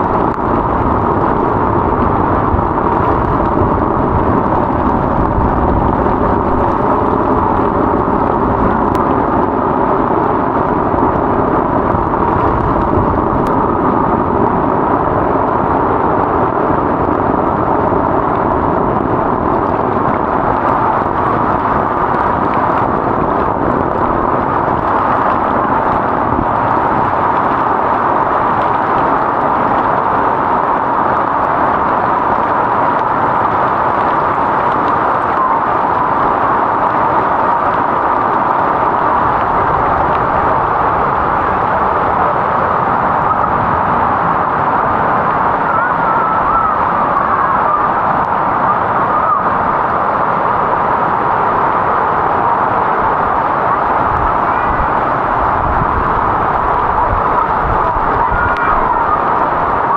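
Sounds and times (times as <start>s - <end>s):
heavy rain on water: 0.0s - 59.9s.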